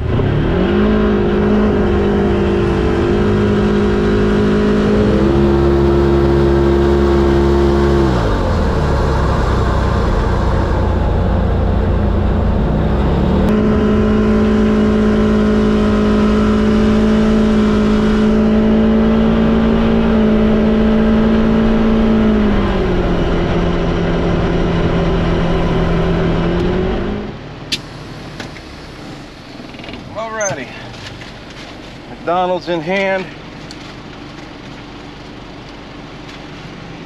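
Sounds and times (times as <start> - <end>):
vehicle engine running under load: 0.0 - 37.0.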